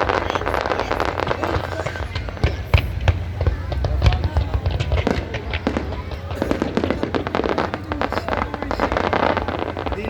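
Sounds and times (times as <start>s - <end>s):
fireworks crackling bangs: 0.0s - 10.0s.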